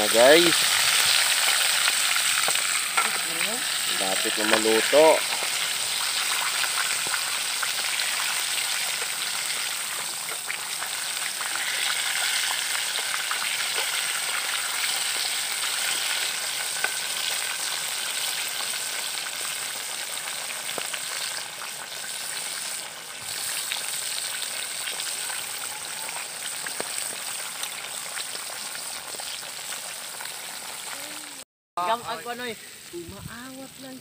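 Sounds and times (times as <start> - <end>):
meat sizzling in oil: 0.0 - 34.0.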